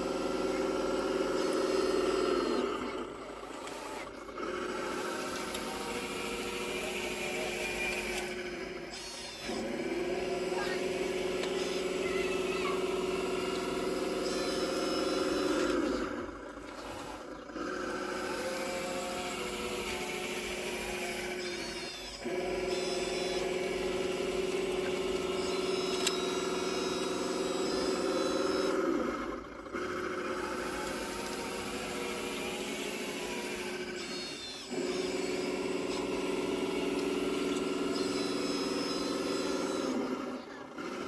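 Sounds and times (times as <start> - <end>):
electric motor whine: 0.0 - 41.0.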